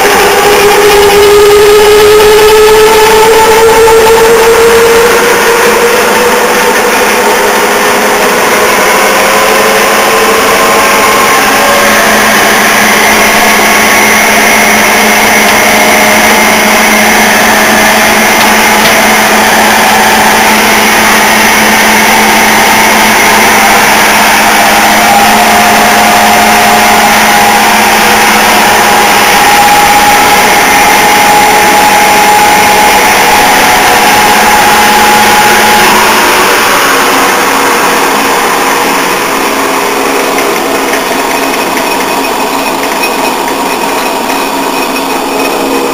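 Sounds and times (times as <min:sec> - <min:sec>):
gear whine: 0:00.0 - 0:45.9
lathe motor humming and whirring: 0:00.0 - 0:45.9.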